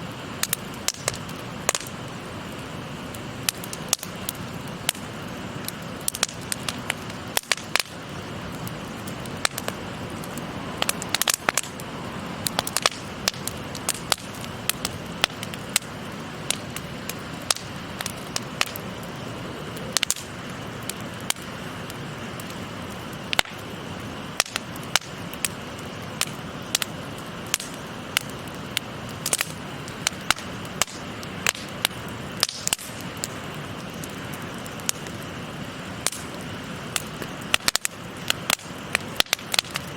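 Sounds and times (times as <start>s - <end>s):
campfire crackling: 0.0s - 39.9s
flowing stream: 0.0s - 39.9s.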